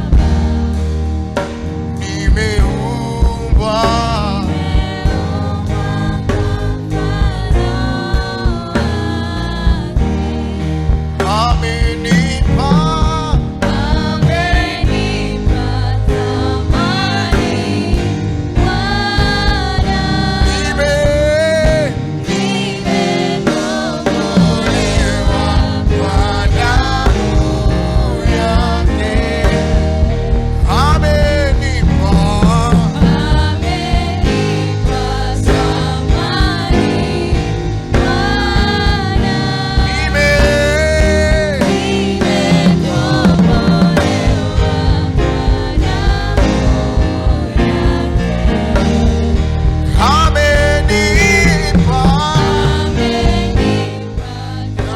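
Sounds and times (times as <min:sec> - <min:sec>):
backing band: 0:00.0 - 0:54.9
gospel choir singing: 0:00.0 - 0:54.9.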